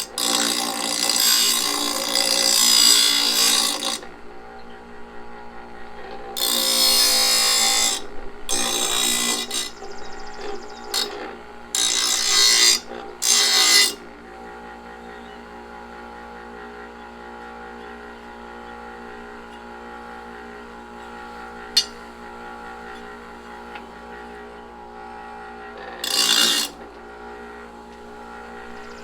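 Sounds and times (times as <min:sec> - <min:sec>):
bench grinder motor hum: 0:00.0 - 0:29.0.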